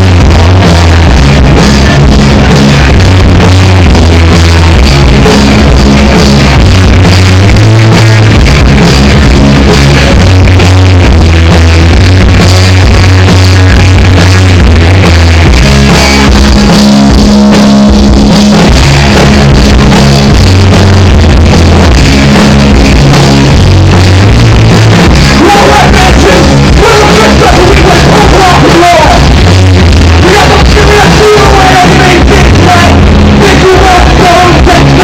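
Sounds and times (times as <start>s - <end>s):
loud music with heavy bass: 0.0s - 35.0s.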